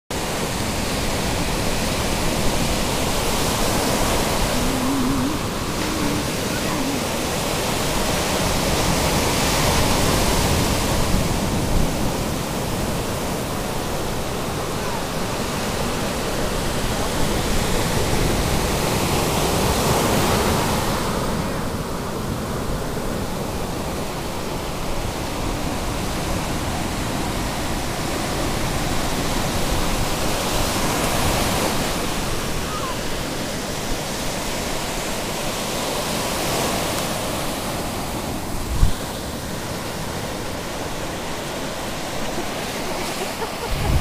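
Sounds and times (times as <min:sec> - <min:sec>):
ocean surf breaking on beach: 0:00.2 - 0:44.0.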